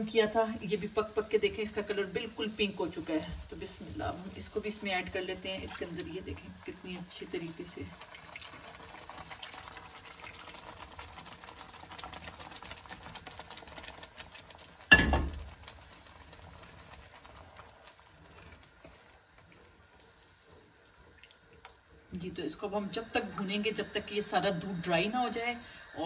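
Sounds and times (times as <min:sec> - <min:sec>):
milk sizzling in a pan: 0:00.0 - 0:26.0.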